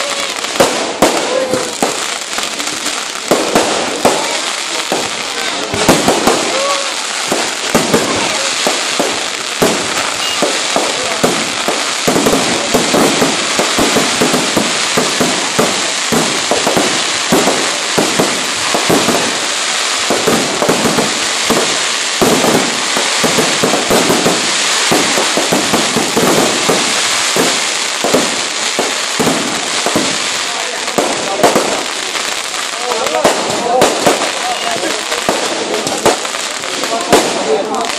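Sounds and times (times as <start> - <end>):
fireworks cracking and popping: 0.0 - 37.9.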